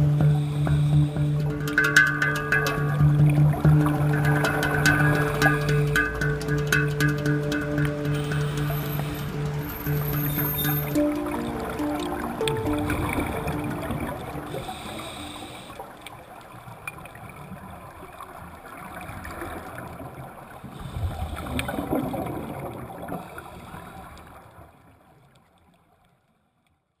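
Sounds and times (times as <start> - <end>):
underwater gurgling: 0.0 - 25.2.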